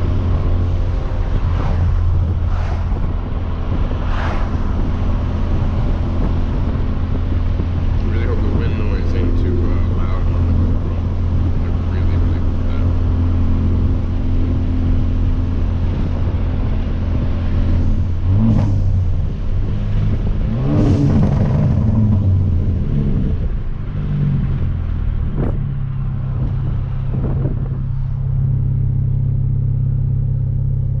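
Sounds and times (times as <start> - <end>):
exhaust crack: 0.0 - 29.2
car engine exhaust drone: 0.0 - 31.0.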